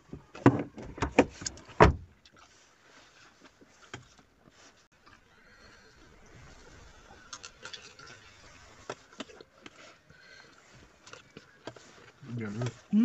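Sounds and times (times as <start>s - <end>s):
soft rustling: 1.3s - 13.0s.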